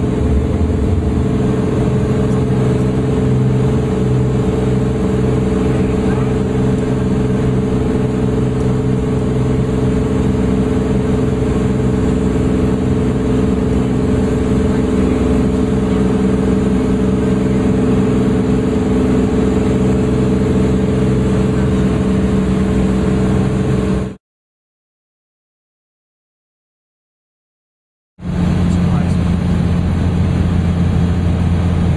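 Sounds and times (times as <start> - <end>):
aircraft engine and propeller: 0.0 - 24.2, 28.2 - 31.9.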